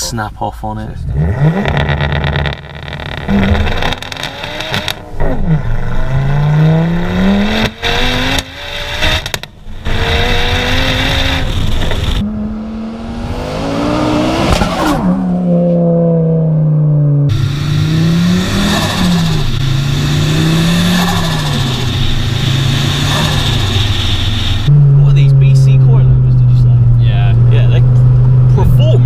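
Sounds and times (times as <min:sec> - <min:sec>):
car engine accelerating: 0:01.0 - 0:29.0.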